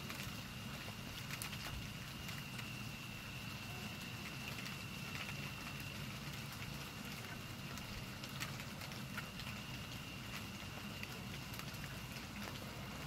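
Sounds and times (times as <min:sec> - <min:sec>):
raindrops and hail ticking on surfaces: 0:00.0 - 0:13.0
steady hiss of rain: 0:00.0 - 0:13.0.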